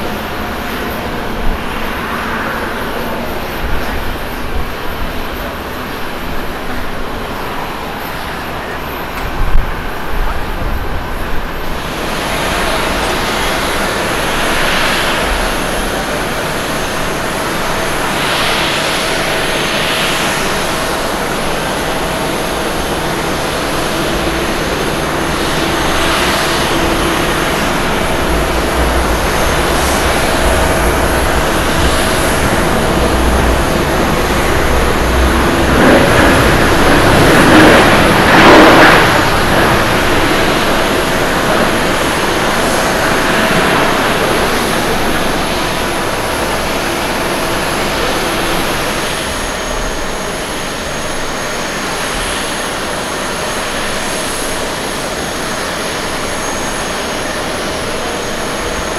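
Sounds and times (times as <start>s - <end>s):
jet airliner engines rushing: 0.0s - 58.9s.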